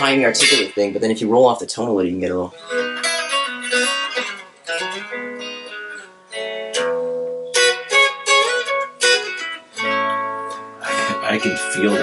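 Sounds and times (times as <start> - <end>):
clean electric guitar: 0.0 - 1.1, 2.2 - 12.0.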